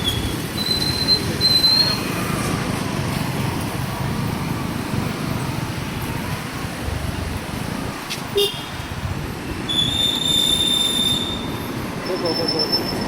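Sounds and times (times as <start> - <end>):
motorcycle engine rumble: 0.0 - 12.5
road and wind noise: 0.0 - 13.0.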